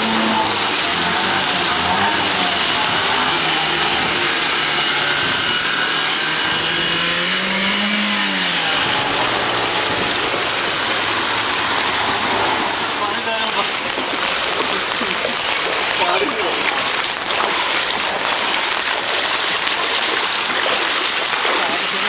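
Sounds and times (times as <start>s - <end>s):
car engine revving: 0.0s - 22.0s
water rushing: 0.0s - 22.0s.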